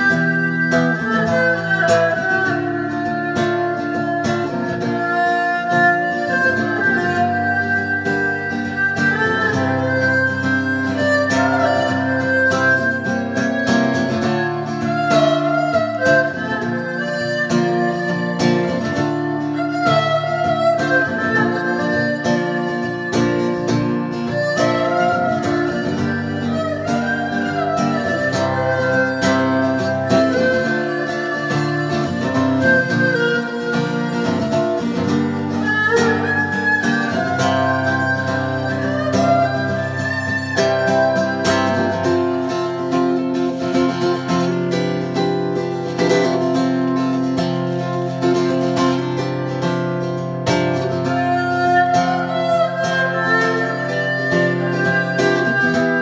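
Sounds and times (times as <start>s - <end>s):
erhu bowing a melody: 0.0s - 56.0s
strummed acoustic guitar: 0.0s - 56.0s.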